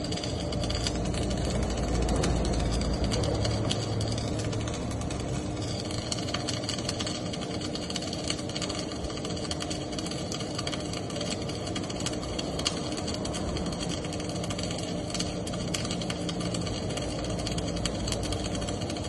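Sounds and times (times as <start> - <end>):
welding arc crackle: 0.0 - 19.0
welding machine hum: 0.0 - 19.0.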